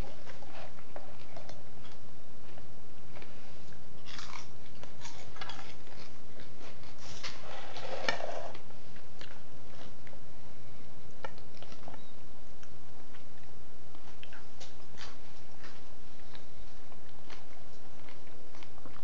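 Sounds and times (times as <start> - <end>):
person chewing food: 0.0 - 10.4, 11.0 - 19.0.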